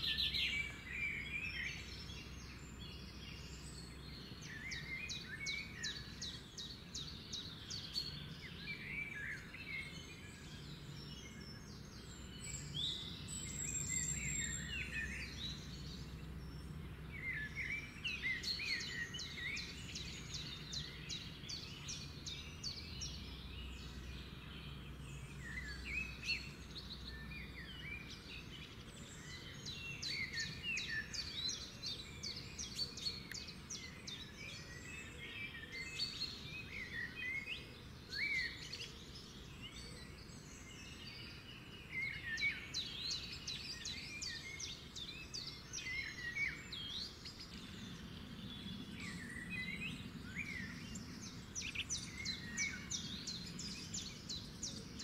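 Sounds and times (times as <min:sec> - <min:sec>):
small birds chirping and twittering: 0:00.0 - 0:55.0.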